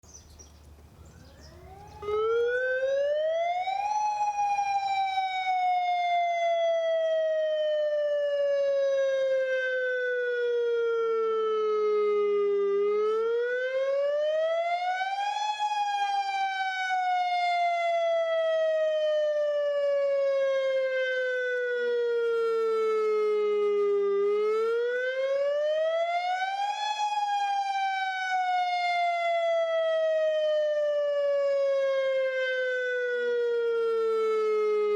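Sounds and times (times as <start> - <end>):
tornado warning siren wailing: 0.9 - 34.9.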